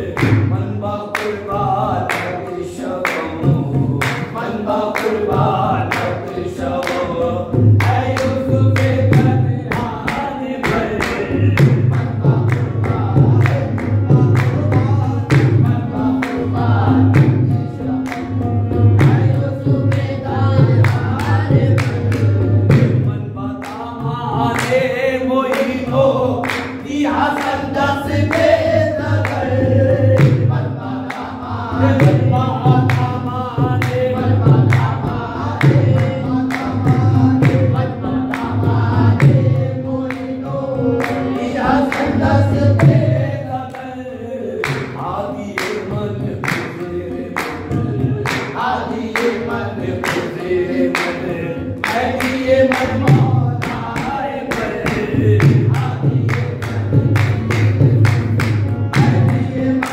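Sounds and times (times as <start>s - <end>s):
men singing together: 0.0s - 59.9s
rhythmic handclaps: 0.0s - 59.9s.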